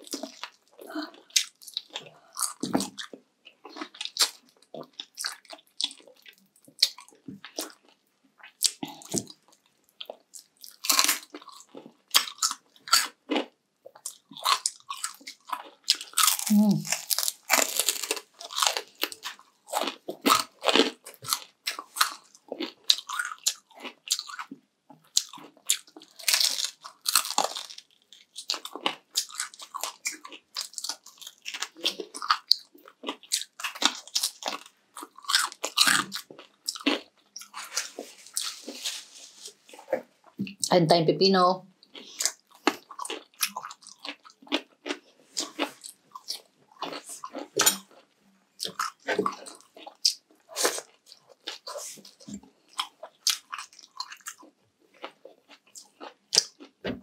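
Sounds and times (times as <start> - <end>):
crunchy food being chewed: 0.0 - 40.7, 41.7 - 57.0
wet chewing: 0.0 - 40.7, 41.8 - 57.0.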